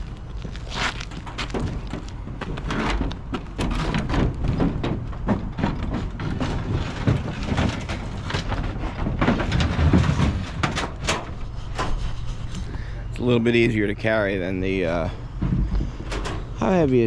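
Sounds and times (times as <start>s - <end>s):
oil tank knocking and scraping: 0.8s - 13.0s, 14.4s - 17.0s.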